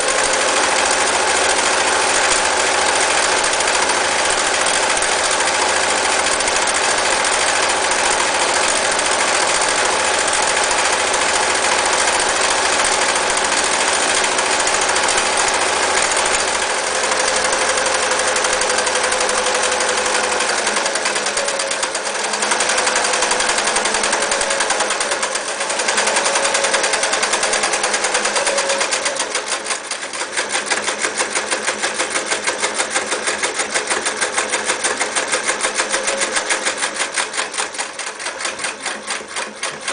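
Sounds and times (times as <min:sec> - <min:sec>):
electric sewing machine stitching: 0:00.0 - 0:39.9.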